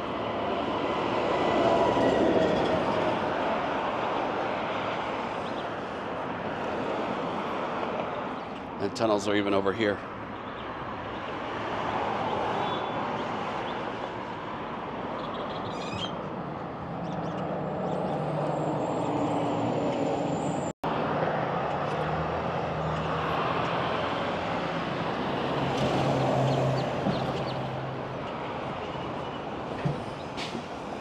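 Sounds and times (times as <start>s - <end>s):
road noise: 0.0s - 31.0s
vehicles driving past: 0.0s - 31.0s.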